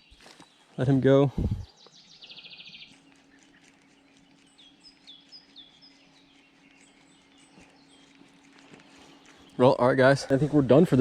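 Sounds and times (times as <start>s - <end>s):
songbird calling: 0.0s - 10.9s.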